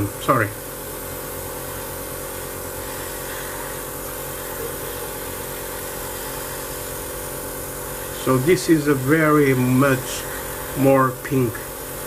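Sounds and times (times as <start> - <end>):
small electric motor humming: 0.0 - 12.0
hiss: 1.4 - 12.0.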